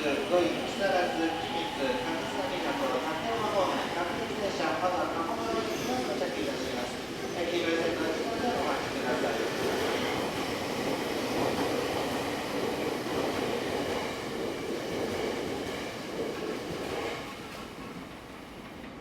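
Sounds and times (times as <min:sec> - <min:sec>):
electric train running on track: 0:00.0 - 0:19.0.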